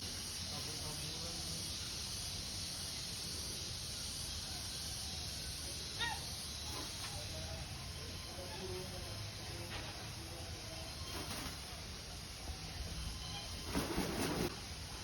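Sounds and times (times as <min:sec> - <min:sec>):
steady hissing background: 0:00.0 - 0:15.0.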